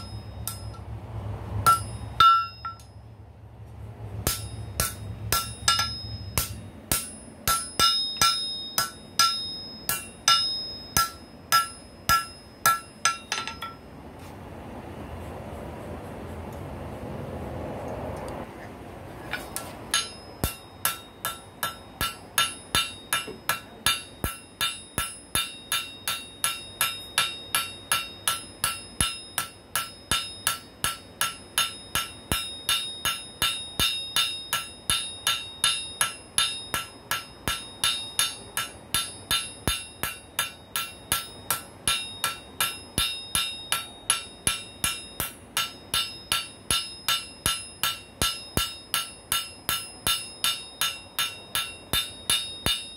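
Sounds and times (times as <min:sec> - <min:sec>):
hammer striking steel on anvil: 0:00.0 - 0:00.9, 0:01.6 - 0:03.0, 0:04.1 - 0:13.9, 0:19.3 - 0:52.9.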